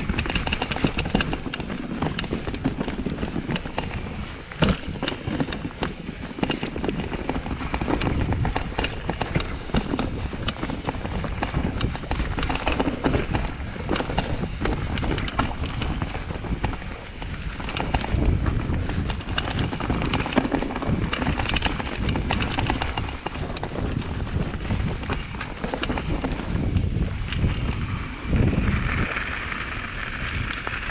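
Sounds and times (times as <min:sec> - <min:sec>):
bike rattling and knocking: 0:00.0 - 0:30.9
bike tyres rolling over dirt: 0:00.0 - 0:30.9
wind on microphone: 0:00.0 - 0:30.9.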